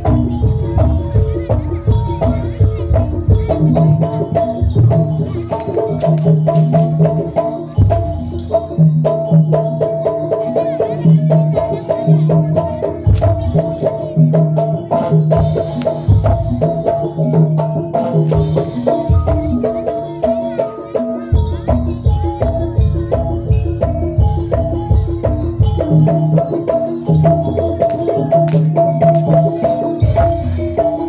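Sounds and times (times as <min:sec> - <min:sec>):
hand drums beating: 0:00.0 - 0:31.0.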